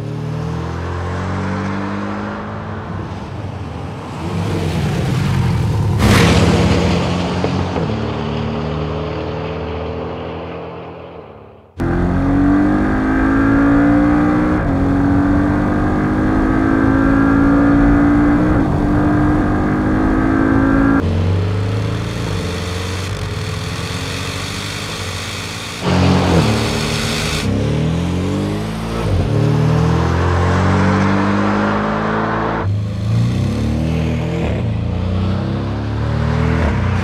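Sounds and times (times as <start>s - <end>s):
car engine accelerating: 4.0s - 37.0s.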